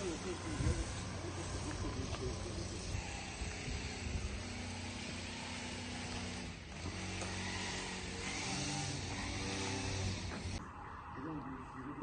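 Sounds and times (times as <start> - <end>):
street background noise: 0.0 - 12.0
vehicle engine humming: 0.0 - 12.0.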